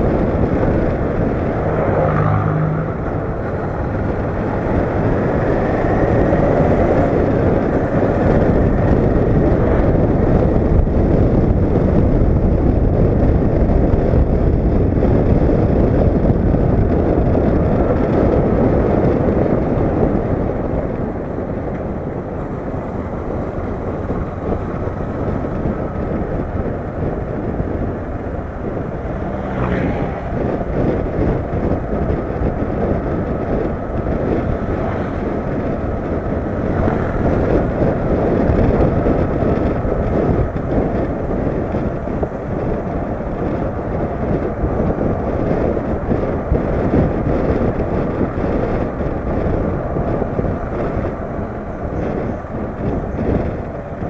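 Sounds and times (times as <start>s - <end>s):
motorcycle engine: 0.0s - 54.0s
wind rushing on microphone: 0.0s - 54.0s.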